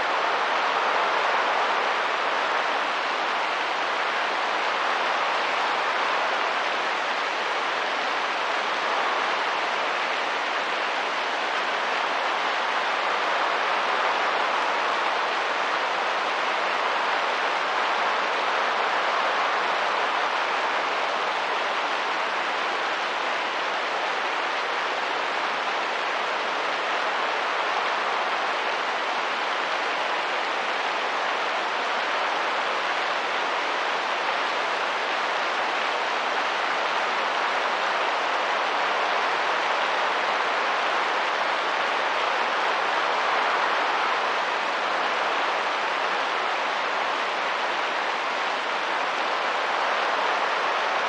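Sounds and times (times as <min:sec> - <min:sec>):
rain: 0:00.0 - 0:51.0.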